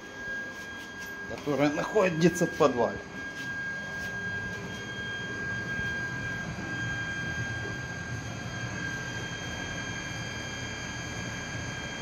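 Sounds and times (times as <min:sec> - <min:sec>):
electric water pump humming: 0:00.0 - 0:12.0.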